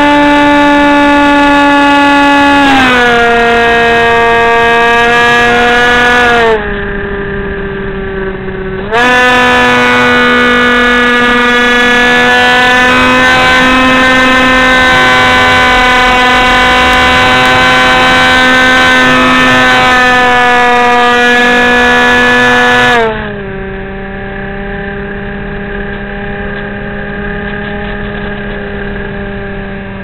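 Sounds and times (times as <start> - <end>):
electric motor and propeller whine: 0.0 - 30.0.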